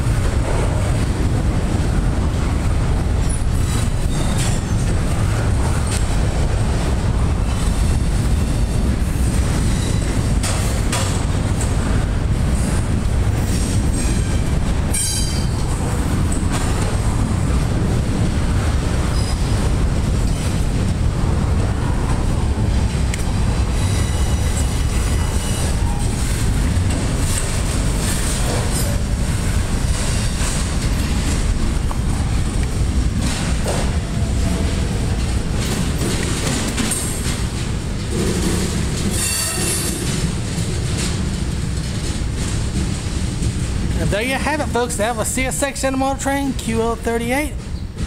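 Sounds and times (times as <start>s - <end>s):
freight train wheels rumbling on rail: 0.0s - 48.0s
wheels clacking on rail joints: 0.0s - 48.0s.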